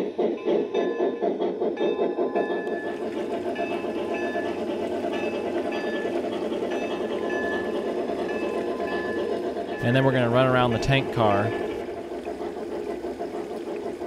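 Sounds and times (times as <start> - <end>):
model train steam chuffs: 0.0 - 14.0.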